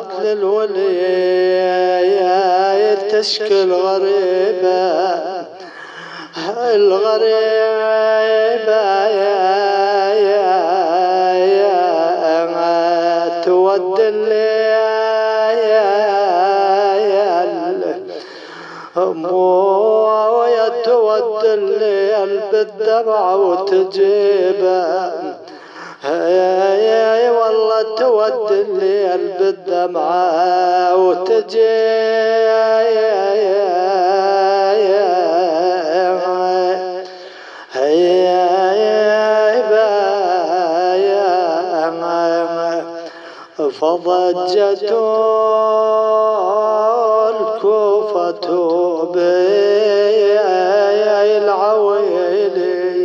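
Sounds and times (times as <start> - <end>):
man chanting a lament: 0.0 - 53.0.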